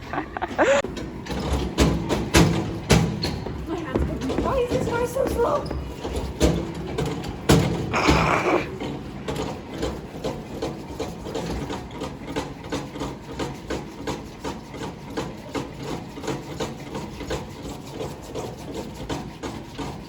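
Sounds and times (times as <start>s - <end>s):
toy car mechanism rubbing and clatter: 0.4s - 20.0s.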